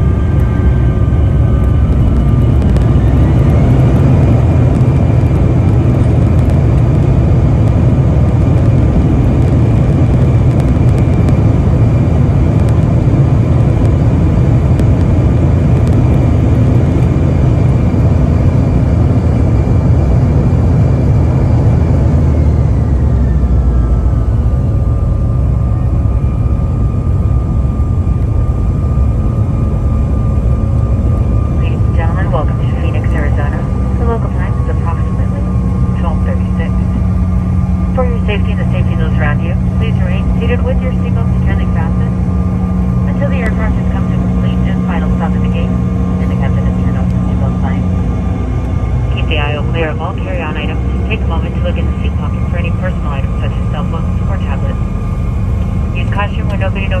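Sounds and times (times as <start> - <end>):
high engine whine: 0.0 - 57.0
jet engines rumbling in cabin: 0.0 - 57.0.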